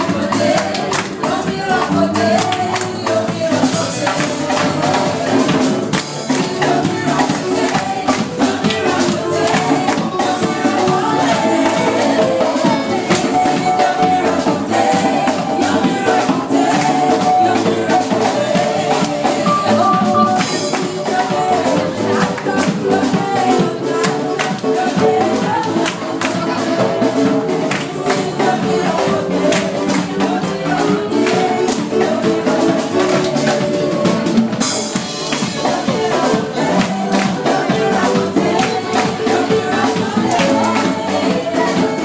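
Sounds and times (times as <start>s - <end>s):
choir singing: 0.0s - 42.0s.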